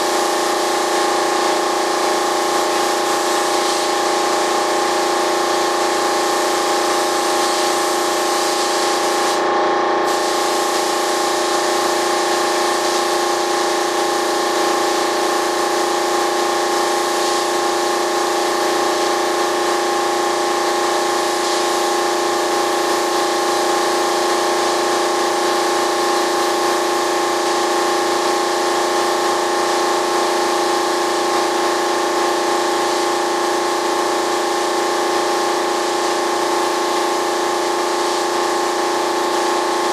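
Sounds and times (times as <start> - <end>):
air spray gun hissing: 0.0 - 39.7.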